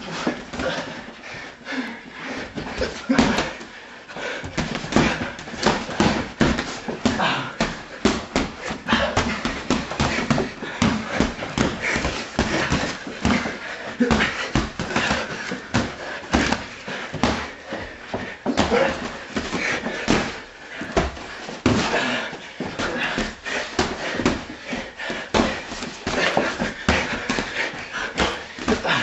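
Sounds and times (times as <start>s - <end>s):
boxing gloves thudding: 2.5s - 29.0s.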